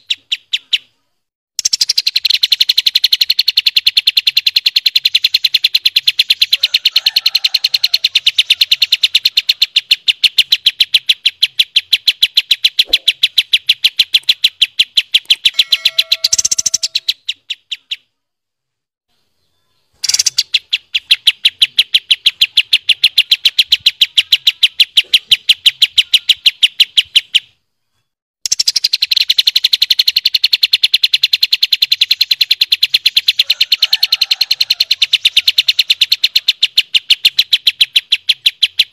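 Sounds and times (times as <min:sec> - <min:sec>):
lower steady bird call: 0:00.0 - 0:18.3, 0:19.1 - 0:38.9
bird rattling trill: 0:01.6 - 0:18.0, 0:20.0 - 0:27.6, 0:28.4 - 0:38.9.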